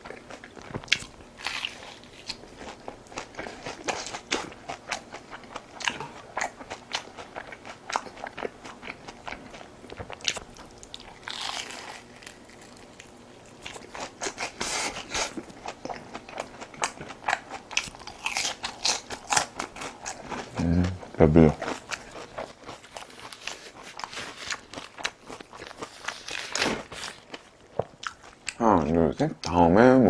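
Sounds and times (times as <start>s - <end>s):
crisp biting and crunching: 0.2s - 20.9s, 21.6s - 28.6s.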